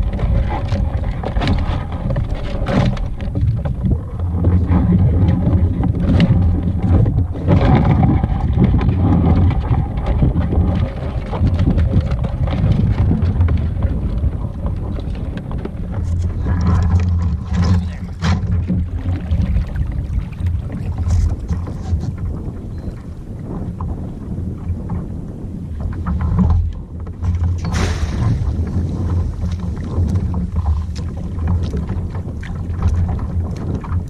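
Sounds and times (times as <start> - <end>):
water sloshing against kayak: 0.0 - 34.0
wind buffeting microphone: 0.0 - 34.0.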